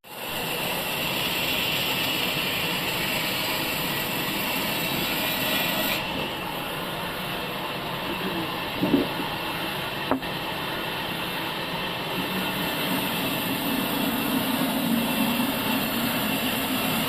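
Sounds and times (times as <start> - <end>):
sawmill saw running: 0.1 - 17.0.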